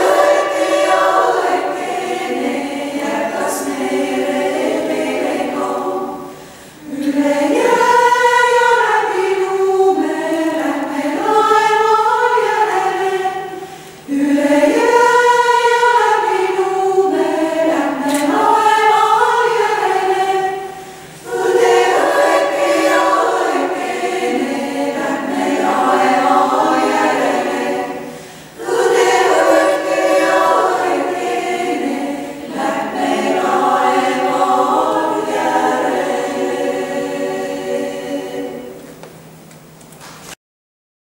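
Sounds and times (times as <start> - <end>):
women's choir singing: 0.0 - 39.4.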